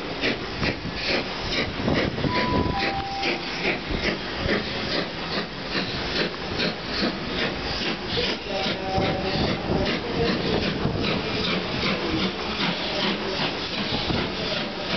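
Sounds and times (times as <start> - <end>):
steam locomotive exhaust beats: 0.0 - 14.9.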